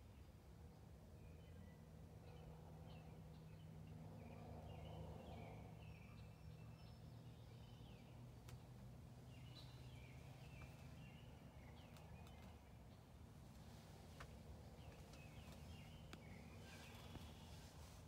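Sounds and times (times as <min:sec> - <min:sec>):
low steady hum: 0:00.0 - 0:18.0
songbirds chirping: 0:00.0 - 0:18.0.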